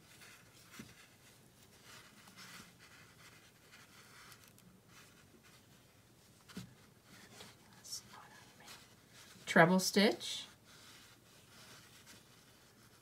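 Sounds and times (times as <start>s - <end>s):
yarn rustling over crochet hook: 0.0s - 13.0s.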